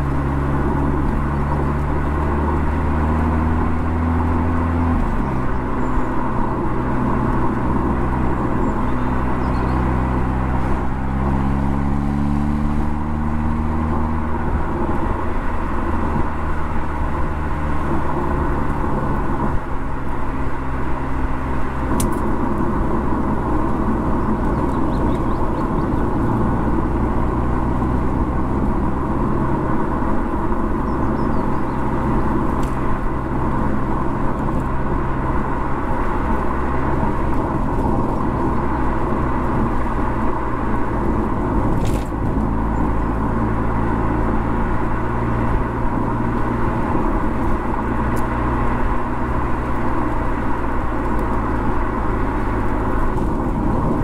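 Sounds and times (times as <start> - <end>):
car engine and exhaust: 0.0 - 54.0
road and tyre noise: 0.0 - 54.0.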